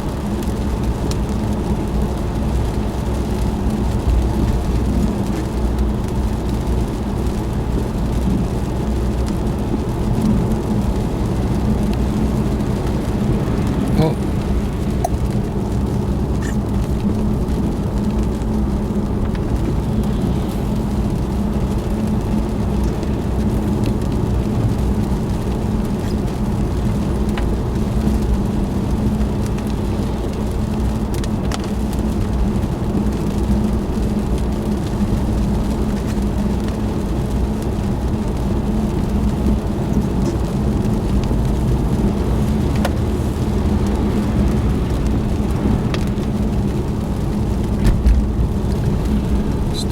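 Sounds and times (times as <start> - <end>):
car driving on wet road: 0.0 - 49.9.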